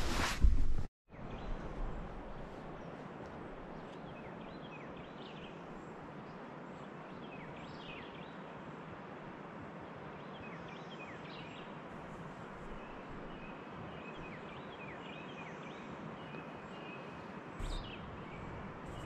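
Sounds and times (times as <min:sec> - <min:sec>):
songbirds chirping: 0:01.1 - 0:19.0.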